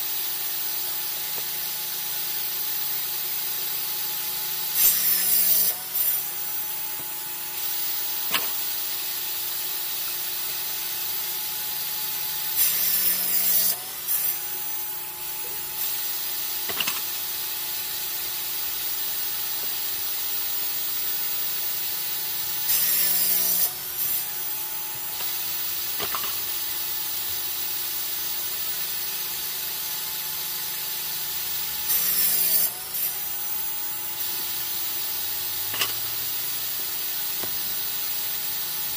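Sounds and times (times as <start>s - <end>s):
saw cutting wooden boards: 0.0s - 38.9s
table saw blade whining: 0.0s - 38.9s.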